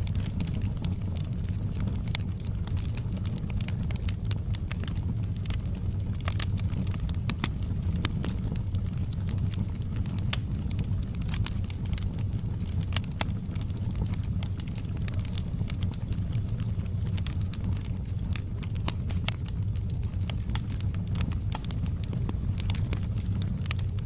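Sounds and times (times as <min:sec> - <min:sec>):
fire crackling and popping: 0:00.0 - 0:24.0
wood fire roaring: 0:00.0 - 0:24.0.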